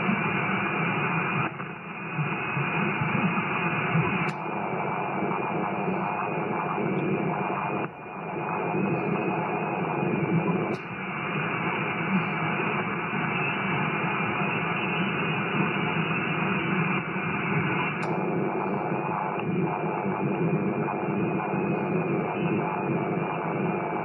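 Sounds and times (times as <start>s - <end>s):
faint steady tones: 0.0s - 24.0s
radio band noise: 0.0s - 24.0s.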